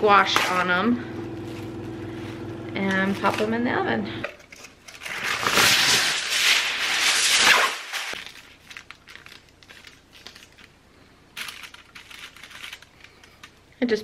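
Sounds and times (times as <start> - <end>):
aluminum foil crinkling: 1.3 - 3.7, 4.4 - 13.8.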